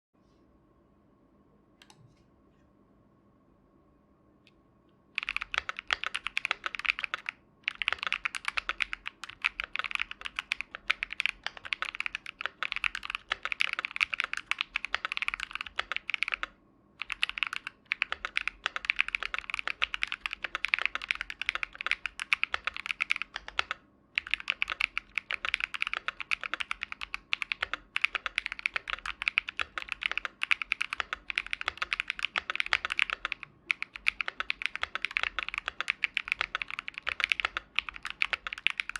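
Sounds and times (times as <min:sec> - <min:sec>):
mechanical keyboard typing: 0:05.2 - 0:38.9.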